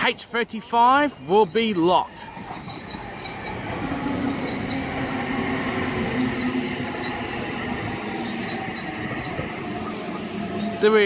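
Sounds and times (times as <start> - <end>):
electric train rail noise: 0.0 - 11.0.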